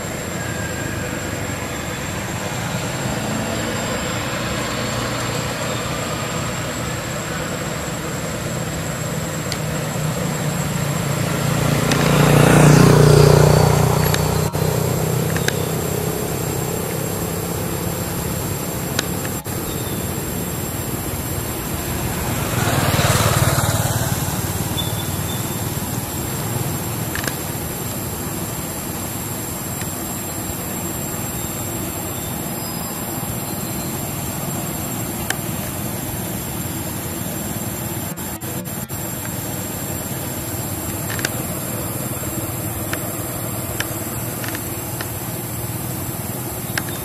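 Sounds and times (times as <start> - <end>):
rushing outdoor background noise: 0.0 - 47.0
motor engine running: 1.1 - 47.0.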